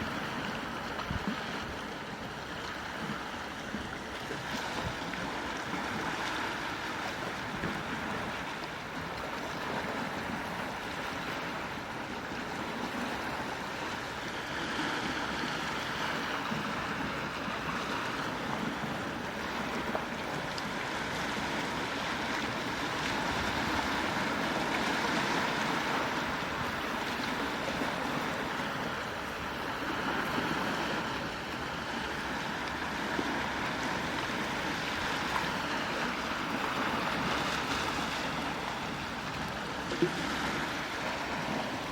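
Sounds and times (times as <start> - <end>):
sea waves washing ashore: 0.0 - 41.9.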